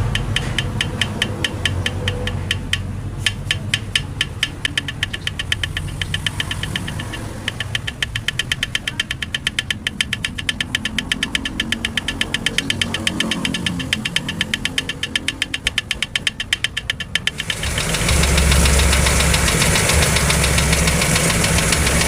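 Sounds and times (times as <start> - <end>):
engine running with rhythmic knock: 0.0 - 22.0.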